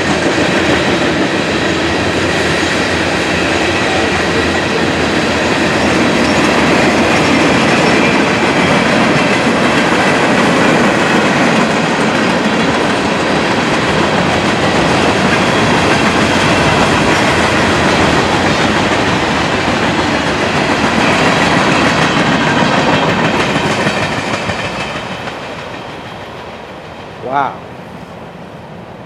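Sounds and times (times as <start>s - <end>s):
freight train rolling past: 0.0s - 29.0s.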